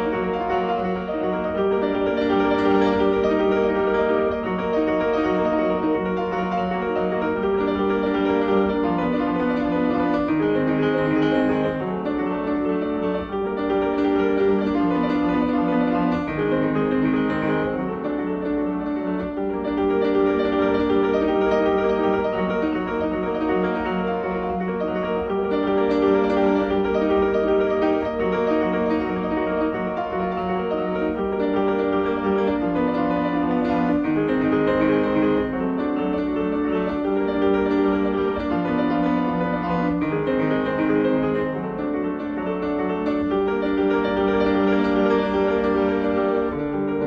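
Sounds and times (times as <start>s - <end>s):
piano music: 0.0s - 47.0s.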